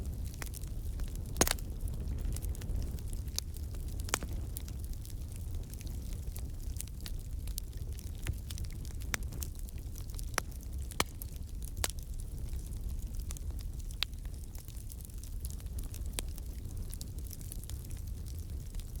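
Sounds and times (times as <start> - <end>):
fire rumbling in fireplace: 0.0 - 19.0
logs crackling and popping: 0.0 - 19.0.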